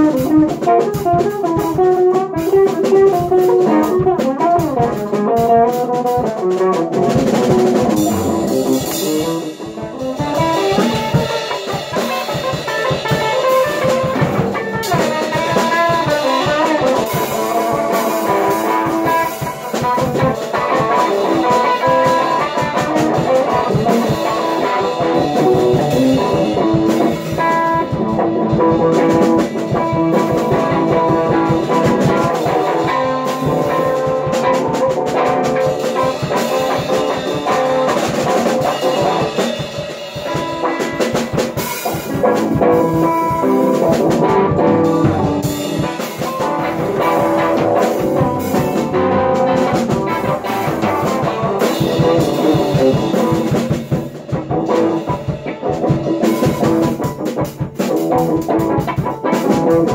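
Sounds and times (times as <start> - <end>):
drum kit playing busy beat: 0.0 - 59.9
guitar playing: 0.0 - 59.9.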